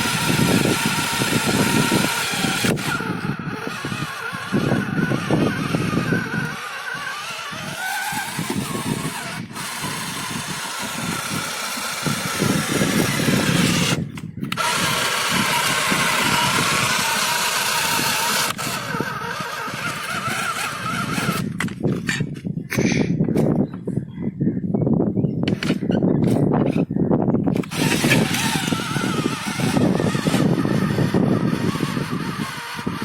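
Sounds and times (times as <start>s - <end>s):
tractor engine running: 0.0s - 21.8s, 27.5s - 33.0s.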